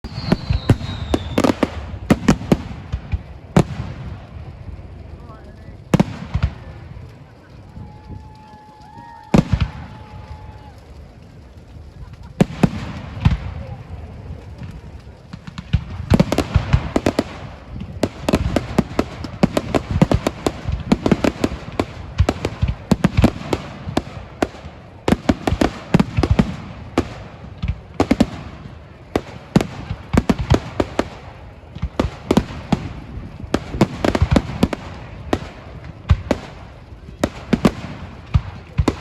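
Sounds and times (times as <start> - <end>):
fireworks bangs and crackling: 0.0 - 39.0
low rumble of explosions: 0.0 - 39.0.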